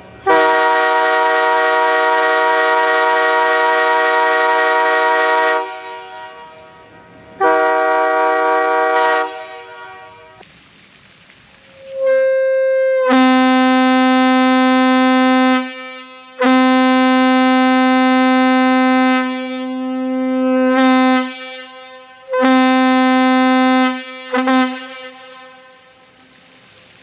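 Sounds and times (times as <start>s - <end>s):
locomotive air horn blasts: 0.2s - 10.4s, 11.8s - 26.2s.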